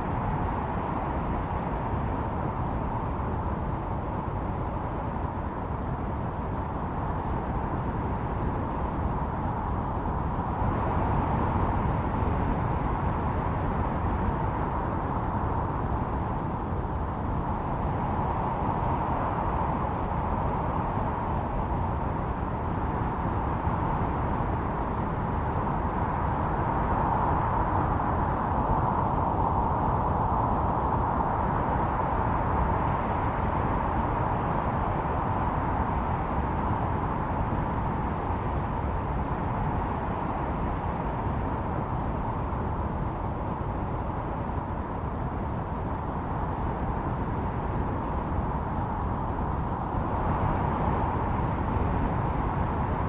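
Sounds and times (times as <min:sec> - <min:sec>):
blizzard wind whistling: 0:00.0 - 0:53.0.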